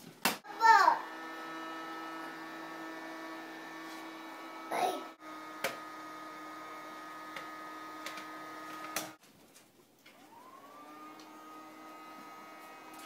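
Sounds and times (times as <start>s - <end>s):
toy vacuum motor whir: 0.5s - 9.2s, 10.2s - 13.0s.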